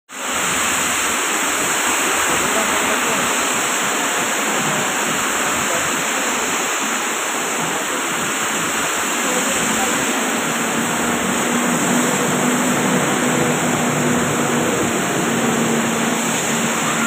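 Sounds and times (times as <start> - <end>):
heavy rain on road: 0.1 - 17.0.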